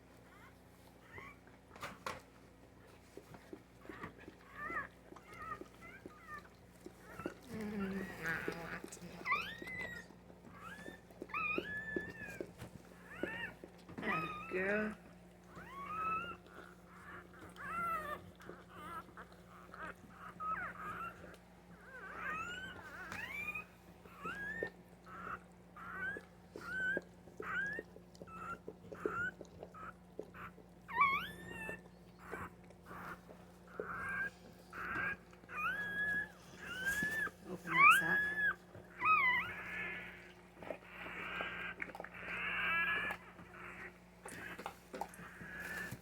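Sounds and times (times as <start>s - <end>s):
newborn puppies crying: 0.2s - 46.0s.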